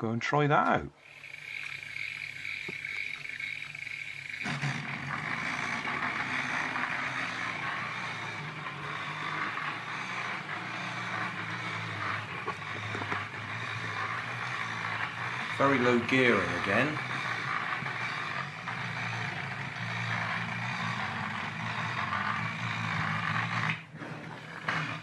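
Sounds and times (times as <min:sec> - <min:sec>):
small motor buzzing: 0:01.0 - 0:25.0
toy car rumbling on wooden floor: 0:01.0 - 0:25.0.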